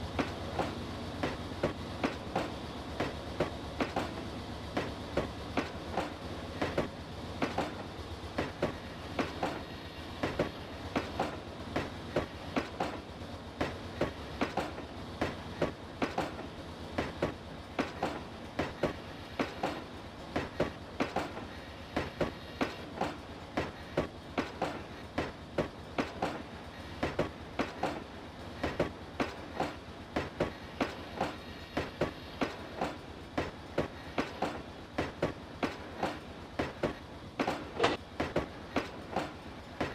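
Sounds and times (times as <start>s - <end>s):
train wheels clacking on rail joints: 0.0s - 39.9s.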